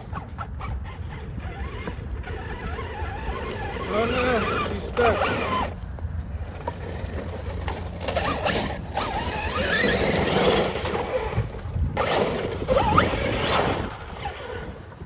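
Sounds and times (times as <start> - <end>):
electric motor whining: 0.0 - 5.8, 6.4 - 15.0.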